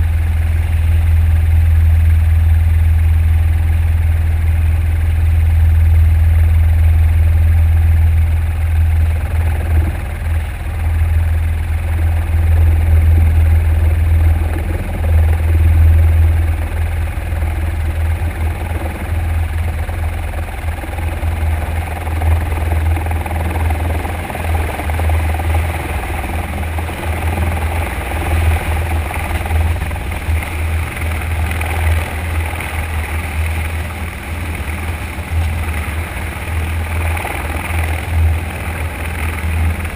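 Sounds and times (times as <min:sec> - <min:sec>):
helicopter rotor and turbine drone: 0:00.0 - 0:39.9.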